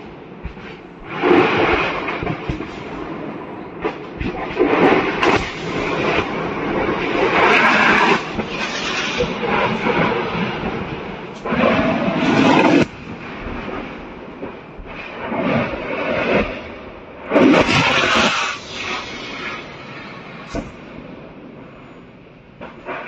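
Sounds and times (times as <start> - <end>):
rumbling crackle of small blasts: 0.0 - 23.0.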